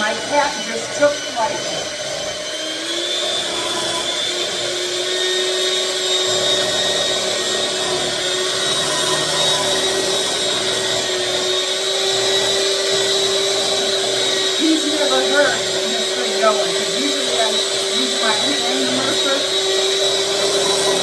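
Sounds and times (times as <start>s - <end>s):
blender motor whine: 0.0s - 21.0s.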